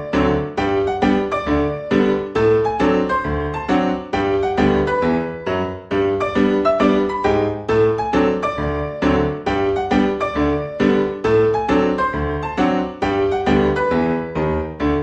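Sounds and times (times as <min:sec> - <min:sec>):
piano playing repeated chords: 0:00.0 - 0:15.0.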